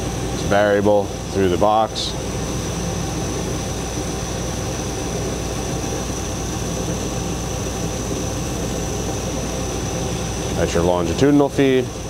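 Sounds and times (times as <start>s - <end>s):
lathe running with high whine: 0.0s - 12.0s.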